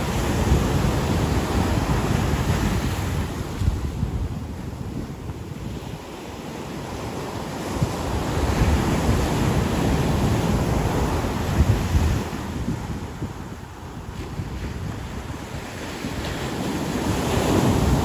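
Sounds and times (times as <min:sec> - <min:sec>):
ocean waves breaking: 0:00.0 - 0:18.0
wind buffeting microphone: 0:00.0 - 0:18.0.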